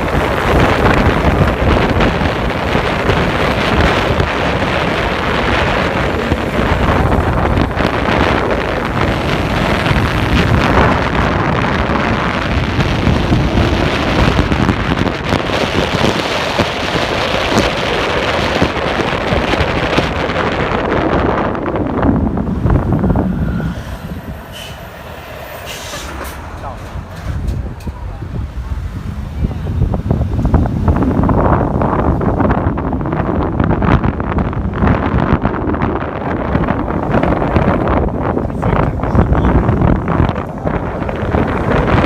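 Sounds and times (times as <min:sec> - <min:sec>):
loud steady rumbling: 0:00.0 - 0:42.0
wind buffeting microphone: 0:00.0 - 0:42.0.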